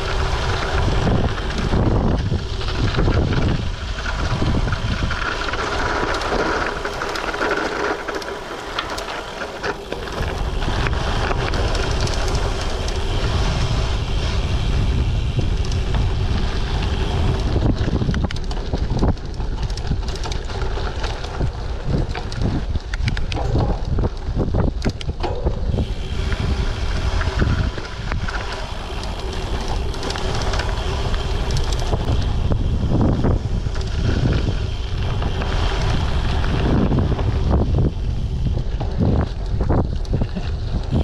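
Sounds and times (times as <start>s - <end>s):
bike clicks and rattles: 0.0s - 41.0s
tyres crunching over dirt: 0.0s - 41.0s
wind buffeting microphone: 0.0s - 41.0s.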